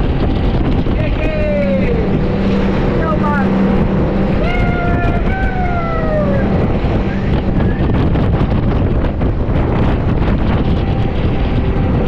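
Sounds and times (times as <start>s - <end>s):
boat engine running: 0.0s - 12.0s
wind buffeting microphone: 0.0s - 12.0s.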